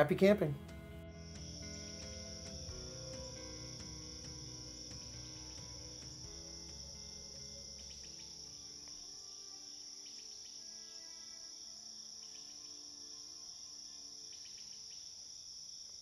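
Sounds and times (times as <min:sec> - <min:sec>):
soft music of held notes: 0:00.0 - 0:15.1
crickets chirring: 0:01.2 - 0:16.0.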